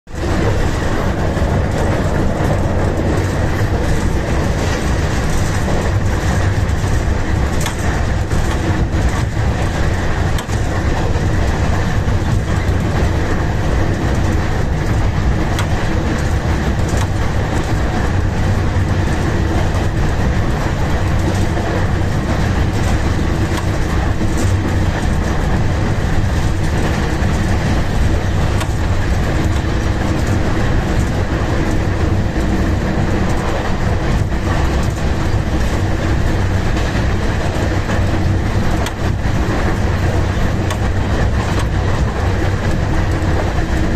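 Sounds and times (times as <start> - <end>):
diesel locomotive engine running: 0.0 - 43.9
wheels clicking over rail joints: 0.1 - 43.9.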